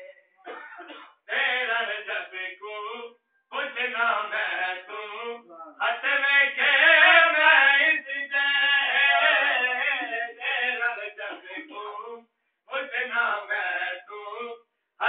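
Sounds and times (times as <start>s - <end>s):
man chanting unaccompanied: 1.3s - 14.6s.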